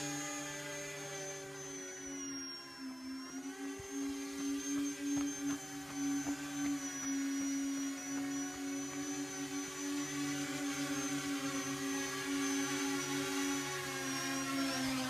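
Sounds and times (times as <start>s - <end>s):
electric motors and propellers buzzing: 0.0s - 15.0s.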